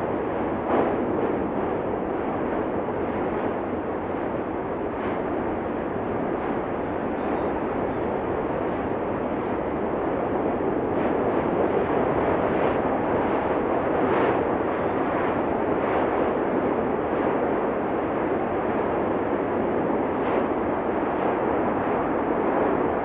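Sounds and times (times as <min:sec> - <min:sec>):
volcano erupting with rushing bursts: 0:00.0 - 0:23.0.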